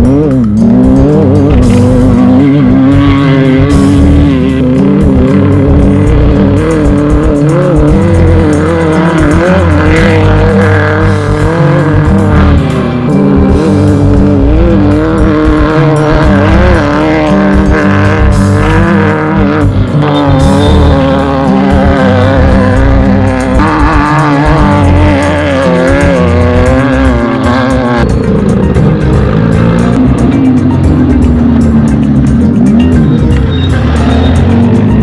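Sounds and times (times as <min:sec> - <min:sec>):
background music: 0:00.0 - 0:35.0
engine revving: 0:00.0 - 0:35.0.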